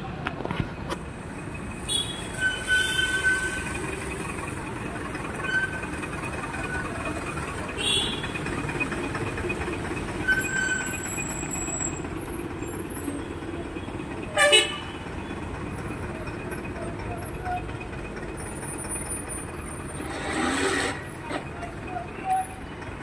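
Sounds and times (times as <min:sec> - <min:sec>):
street traffic hum: 0:00.0 - 0:23.0.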